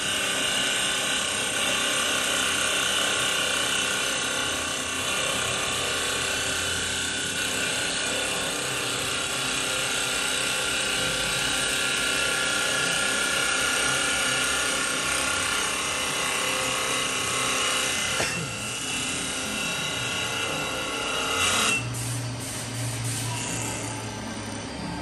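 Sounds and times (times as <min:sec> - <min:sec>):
cutter shaving wood: 0:00.0 - 0:21.9
lathe machine whine: 0:00.0 - 0:25.0.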